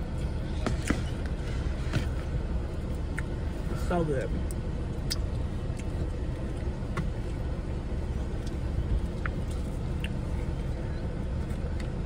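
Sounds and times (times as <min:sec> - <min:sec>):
air conditioning hum: 0:00.0 - 0:12.0
car engine idling: 0:00.0 - 0:12.0.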